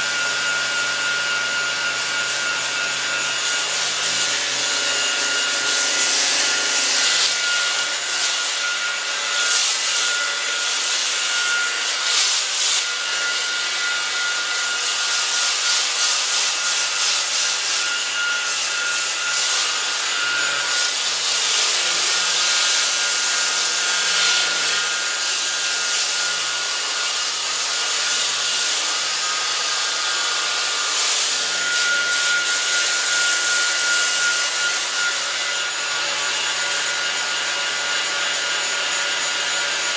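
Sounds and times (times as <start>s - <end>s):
sanding disc grinding metal: 0.0s - 39.9s.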